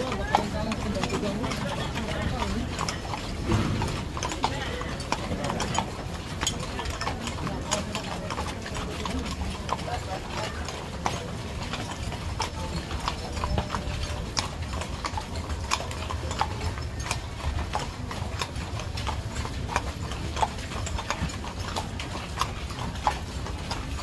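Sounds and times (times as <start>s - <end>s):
horse hooves clip-clopping: 0.0s - 24.0s.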